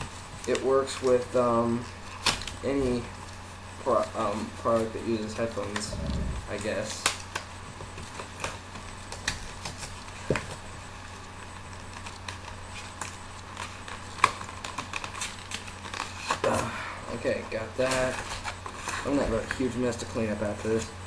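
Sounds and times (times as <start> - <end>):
packaging clicking and crackling: 0.3 - 5.9, 6.5 - 10.6, 11.2 - 20.9.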